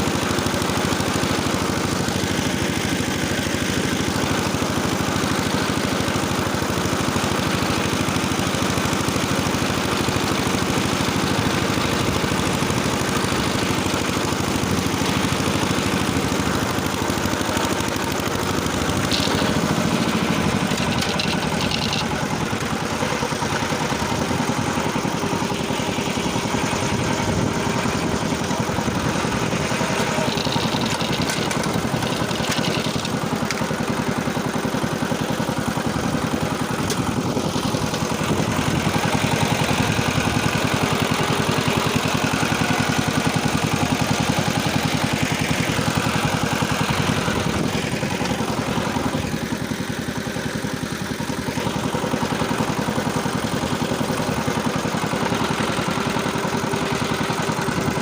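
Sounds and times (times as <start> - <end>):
rotary tiller engine under load: 0.0 - 58.0.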